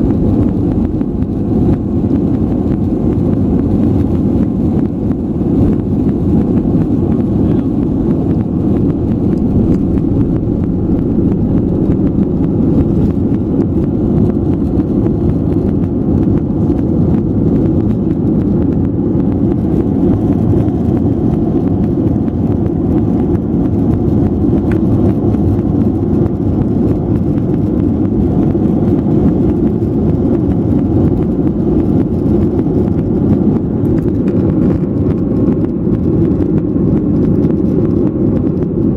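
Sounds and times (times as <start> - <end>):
airliner engines rumbling: 0.0 - 38.9
rushing air: 0.0 - 38.9.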